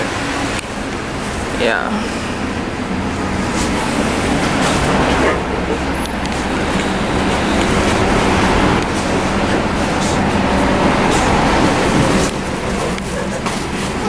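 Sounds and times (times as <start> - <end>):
bus diesel engine idling: 0.0 - 14.0
street traffic: 0.0 - 14.0.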